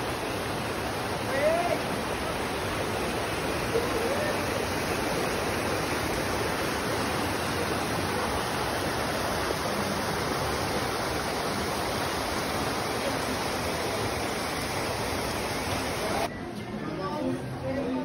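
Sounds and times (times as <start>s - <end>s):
stream rushing over boulders: 0.0s - 16.3s.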